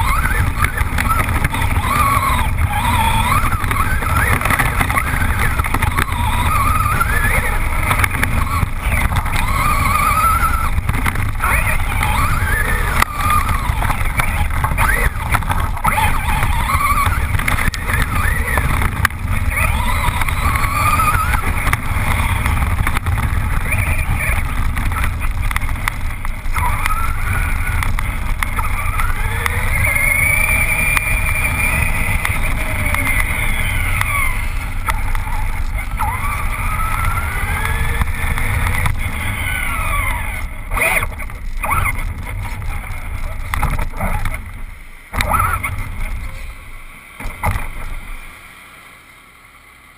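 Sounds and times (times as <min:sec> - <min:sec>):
wind rumble on microphone: 0:00.0 - 0:48.2
electric motor whining: 0:00.0 - 0:48.3
gravel ticking: 0:00.0 - 0:48.5.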